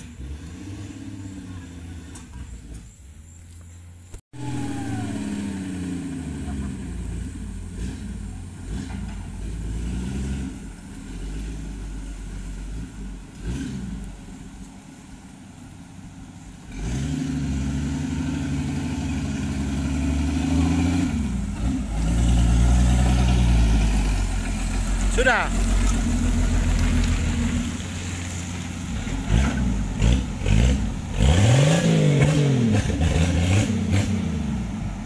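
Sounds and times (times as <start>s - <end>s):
truck engine revving: 0.0s - 2.9s, 4.4s - 14.6s, 16.6s - 35.0s.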